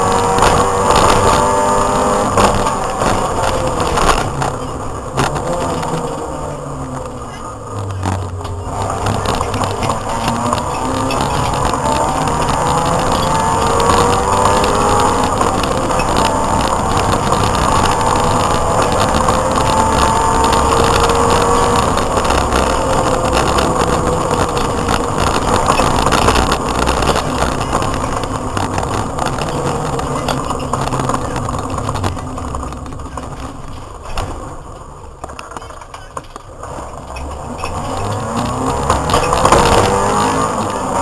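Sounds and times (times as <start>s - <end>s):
heavy road noise: 0.0s - 41.0s
rally car engine revving: 0.0s - 41.0s.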